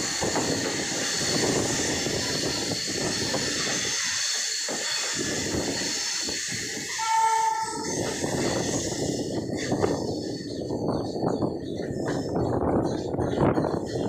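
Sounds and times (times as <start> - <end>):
wheels rumbling on rails: 0.0 - 14.0
wind noise: 0.0 - 14.0.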